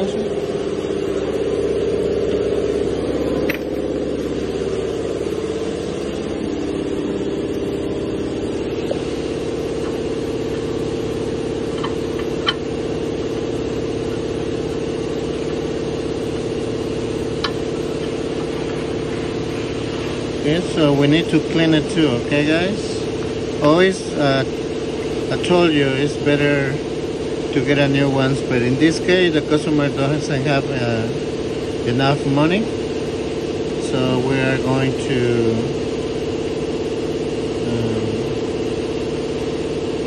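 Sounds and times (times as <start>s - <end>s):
steady machine drone: 0.0s - 40.0s.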